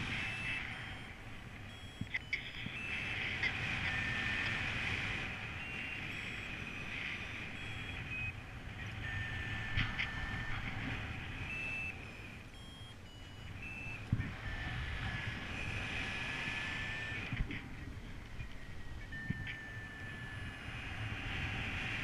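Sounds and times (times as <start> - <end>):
airflow over microphone: 0.0 - 22.0
variometer beeping: 0.0 - 22.0.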